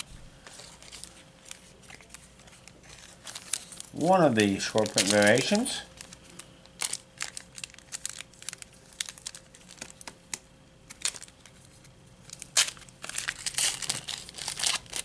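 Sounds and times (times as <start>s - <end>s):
foil pack crinkling and tearing: 0.0s - 15.0s.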